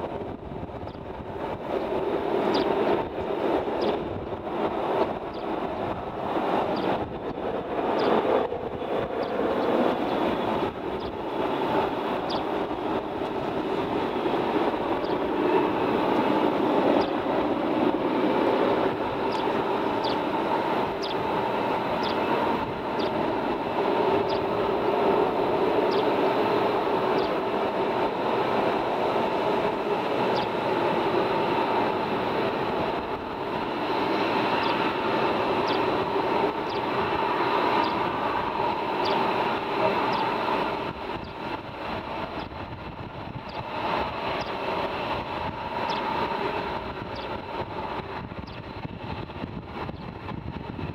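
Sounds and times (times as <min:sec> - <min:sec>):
distant jet engines roaring: 0:00.0 - 0:50.9.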